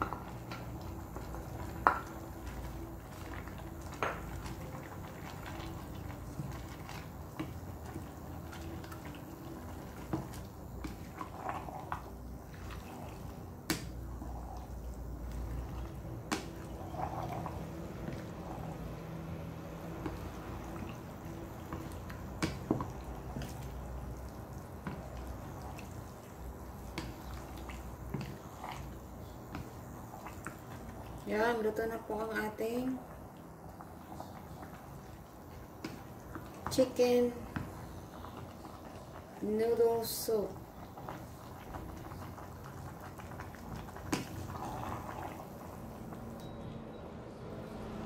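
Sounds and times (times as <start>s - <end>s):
soup simmering in a pot: 0.0s - 48.0s.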